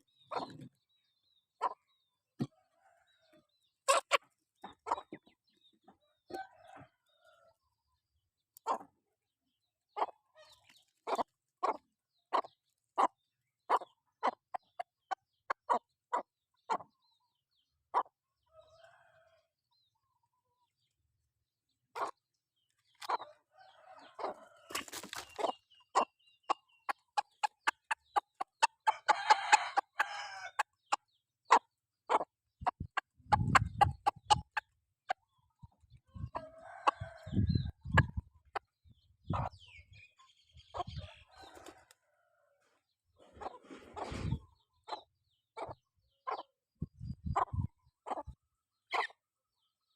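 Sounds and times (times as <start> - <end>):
chickens clucking: 0.0 - 21.1, 21.7 - 49.7.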